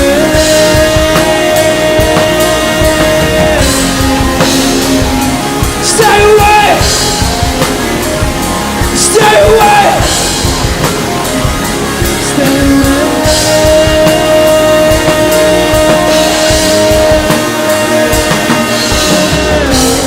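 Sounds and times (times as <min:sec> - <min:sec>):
bending melodic phrases: 0:00.0 - 0:20.0
rock music: 0:00.0 - 0:20.0
steady drum beat: 0:00.0 - 0:20.0.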